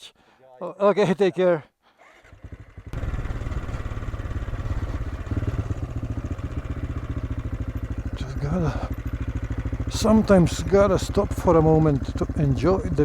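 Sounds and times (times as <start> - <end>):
motorcycle engine running: 2.4 - 13.0.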